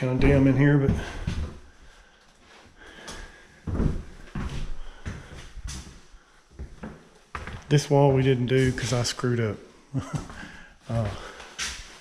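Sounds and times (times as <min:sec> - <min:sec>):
footsteps on a bare floor: 0:00.0 - 0:09.2, 0:10.0 - 0:12.0.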